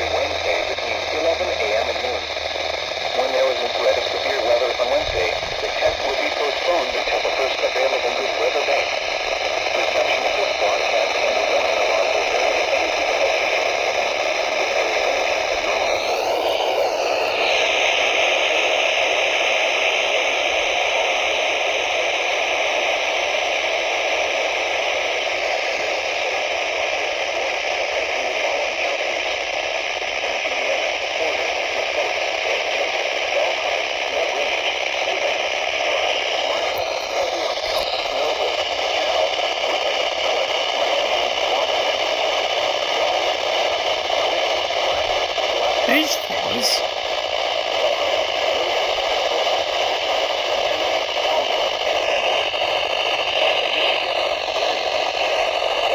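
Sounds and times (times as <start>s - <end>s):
radio static hiss: 0.0s - 42.1s, 42.8s - 46.9s.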